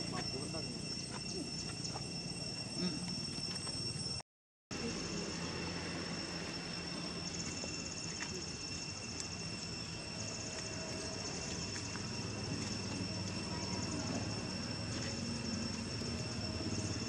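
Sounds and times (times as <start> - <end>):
insects buzzing: 0.0 - 17.0
pulsing insect trill: 0.0 - 17.0.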